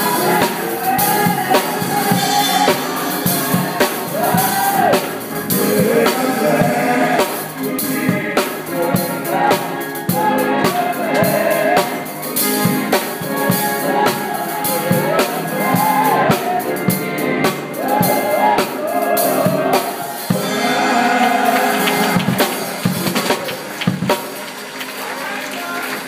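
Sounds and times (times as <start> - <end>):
drum kit playing: 0.0 - 25.0.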